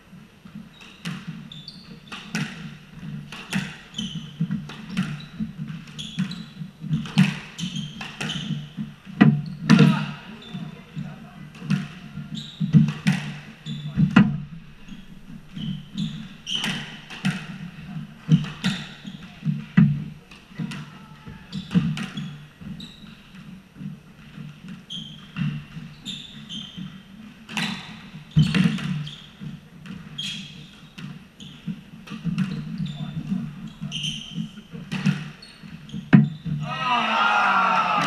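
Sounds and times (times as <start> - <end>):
shoes squeaking on hardwood floor: 0.4 - 36.9
squash ball hitting rackets and walls: 0.6 - 36.6.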